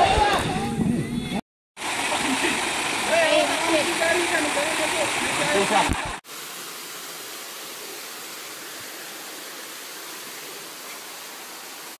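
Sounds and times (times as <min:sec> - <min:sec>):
waterfall rushing: 0:01.8 - 0:12.0.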